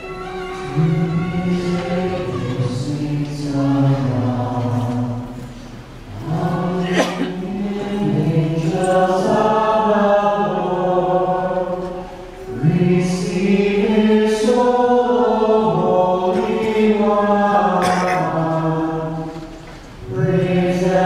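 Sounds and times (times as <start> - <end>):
choir chanting a hymn: 0.0 - 21.0.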